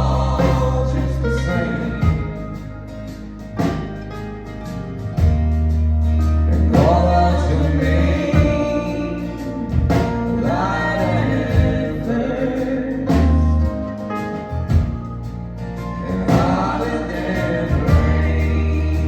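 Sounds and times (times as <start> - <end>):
deep bass line: 0.0 - 19.0
guitars playing: 0.0 - 19.0.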